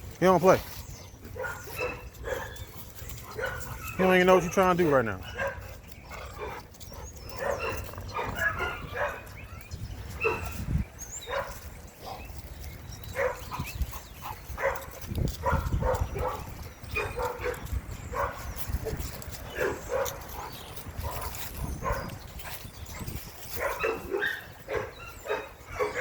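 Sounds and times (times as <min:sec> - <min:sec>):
dogs barking and yipping: 0:00.0 - 0:26.0.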